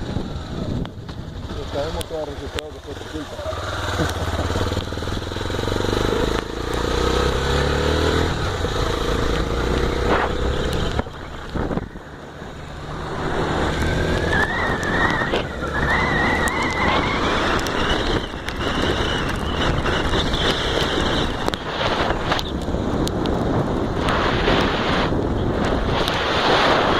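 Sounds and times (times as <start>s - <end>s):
motorcycle engine shifting gears: 0.0s - 26.9s.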